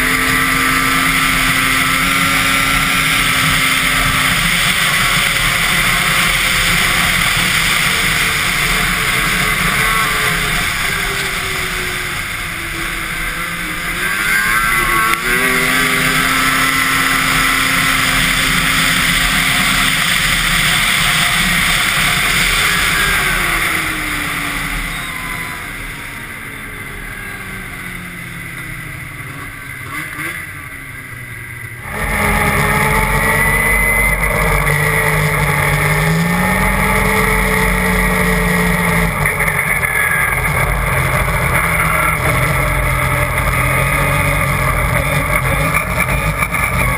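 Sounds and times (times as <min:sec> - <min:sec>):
snowmobile engine at speed: 0:00.0 - 0:46.9.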